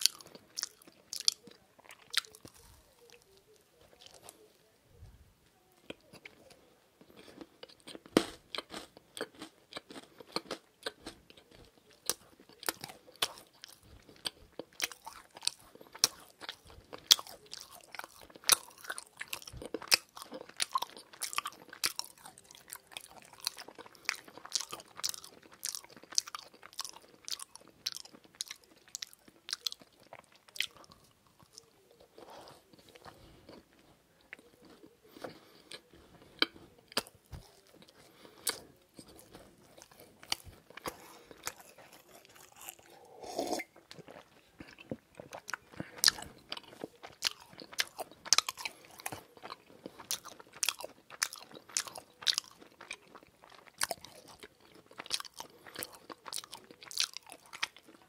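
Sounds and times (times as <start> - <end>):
person chewing crunchy food: 0.0 - 4.5, 5.9 - 58.0.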